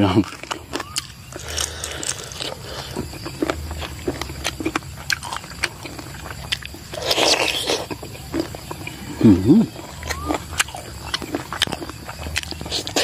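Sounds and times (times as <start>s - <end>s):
wet chewing and smacking: 0.0s - 13.0s.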